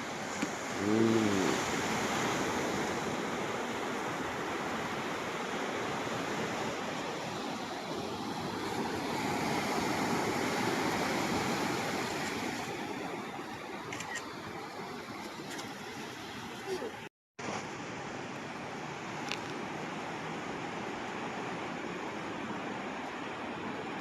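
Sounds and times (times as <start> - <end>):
waves washing onto a beach: 0.0 - 24.0.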